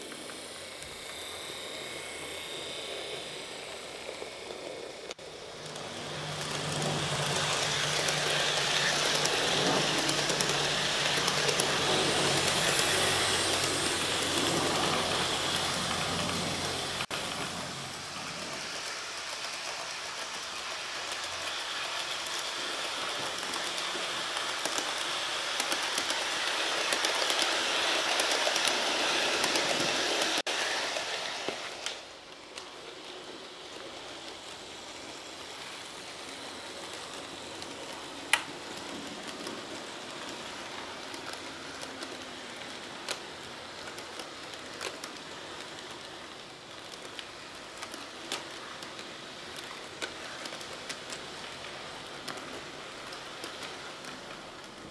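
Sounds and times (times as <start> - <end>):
model train whirring rattle: 0.0 - 54.9
wheels clicking over rail joints: 0.0 - 54.9.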